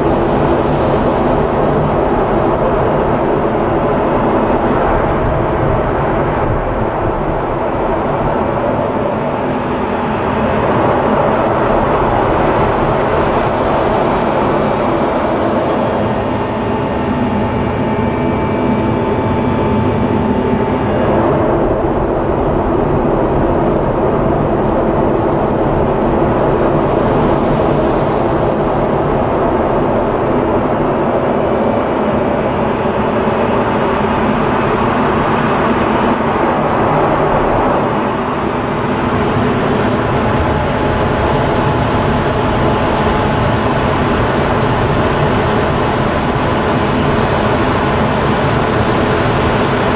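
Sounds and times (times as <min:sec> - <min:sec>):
jet engine and airflow noise: 0:00.0 - 0:49.9.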